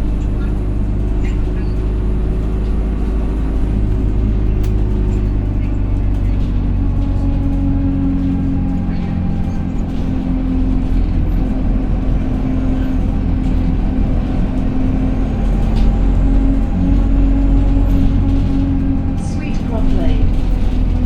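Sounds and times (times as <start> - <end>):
bus engine rumble and whine: 0.0 - 21.0.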